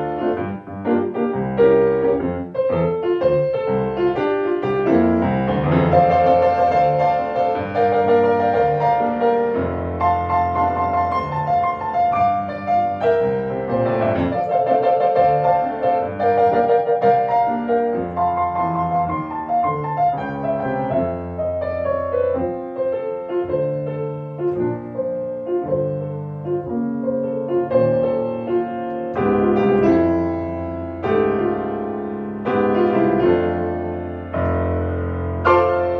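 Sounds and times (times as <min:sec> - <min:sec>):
grand piano playing: 0:00.0 - 0:35.9.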